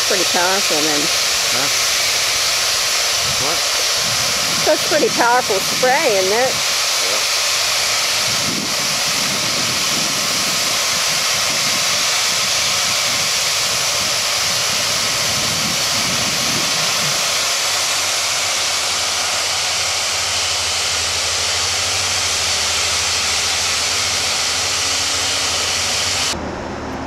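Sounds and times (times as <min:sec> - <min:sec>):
gas hissing from pipework: 0:00.0 - 0:26.4.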